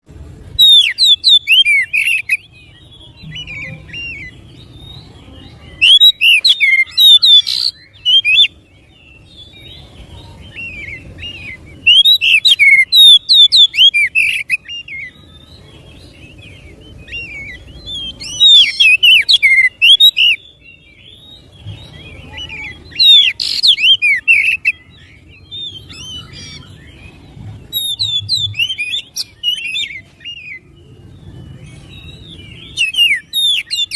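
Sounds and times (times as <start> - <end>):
bird singing whistled phrases: 0.5 - 33.9.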